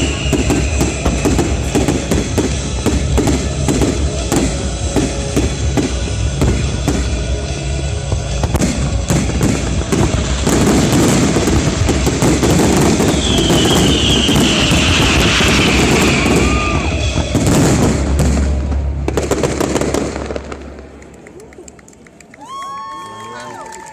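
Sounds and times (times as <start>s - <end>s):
fireworks bursts and crackling: 0.0s - 22.9s.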